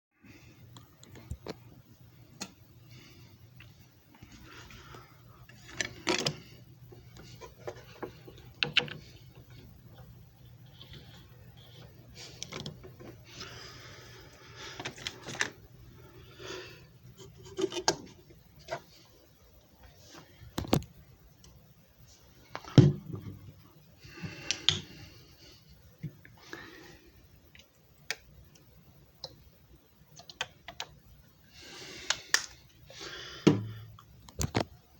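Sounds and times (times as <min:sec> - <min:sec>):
low steady hum: 0:00.2 - 0:34.9.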